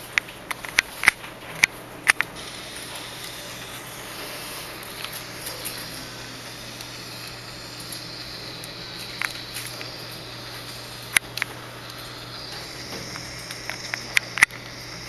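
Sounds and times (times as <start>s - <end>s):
sharp clicks: 0.5s - 15.0s
steady hiss: 2.1s - 15.0s.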